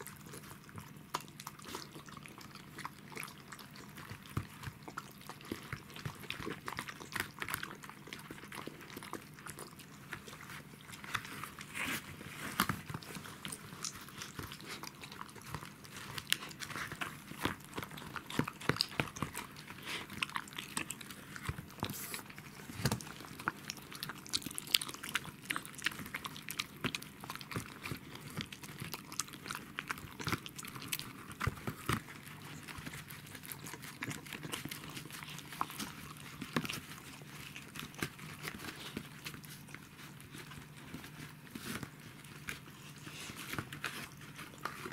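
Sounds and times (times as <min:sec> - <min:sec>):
dog licking and chewing food: 0:00.0 - 0:44.9.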